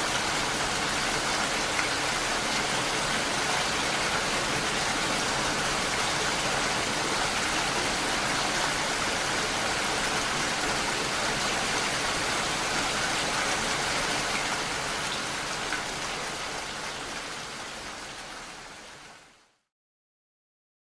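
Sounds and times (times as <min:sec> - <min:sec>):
steady rain: 0:00.0 - 0:19.6.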